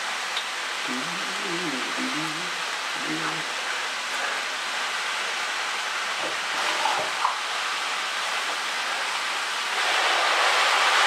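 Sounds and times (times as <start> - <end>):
vegetables sizzling in a frying pan: 0.0 - 0.9, 2.4 - 11.0.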